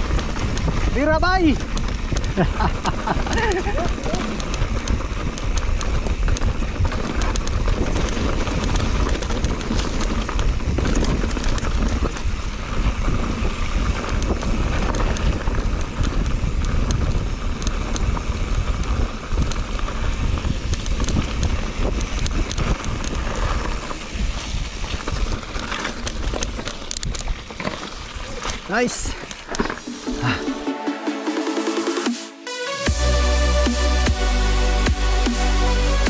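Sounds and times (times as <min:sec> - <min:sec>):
wind buffeting microphone: 0:00.0 - 0:29.2
bike rattling clicks: 0:00.0 - 0:29.9
bike tyres rolling over dirt: 0:00.0 - 0:30.4.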